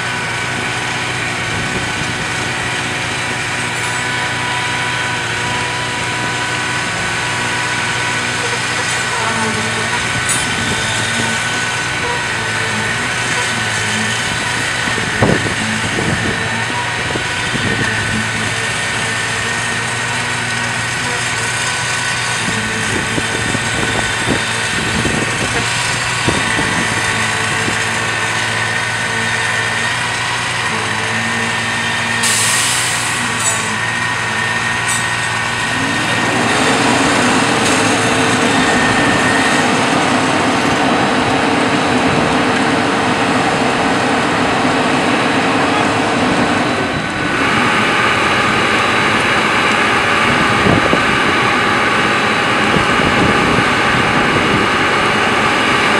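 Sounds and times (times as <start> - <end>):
truck engine running and revving: 0.0 - 55.9.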